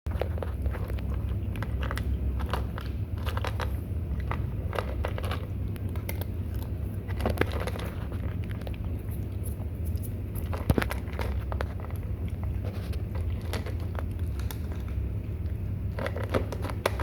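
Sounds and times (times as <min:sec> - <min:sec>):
kittens crunching and chewing: 0:00.1 - 0:17.0
steady low hum: 0:00.1 - 0:17.0.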